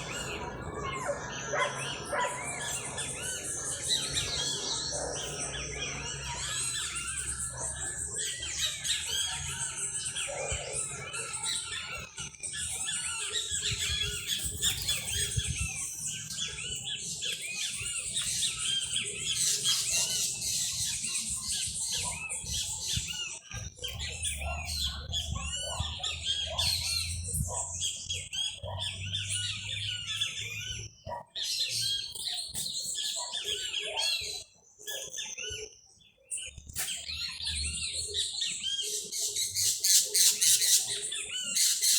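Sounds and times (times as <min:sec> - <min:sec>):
small birds chirping and singing: 0:00.0 - 0:41.9.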